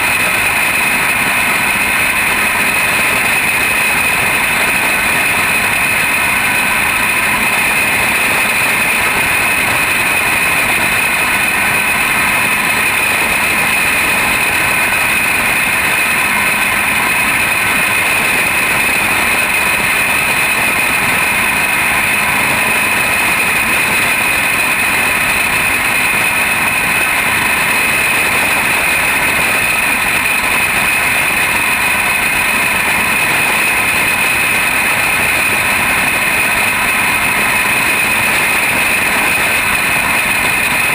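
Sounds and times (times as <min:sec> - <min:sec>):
kart engine at high revs: 0:00.0 - 0:40.9.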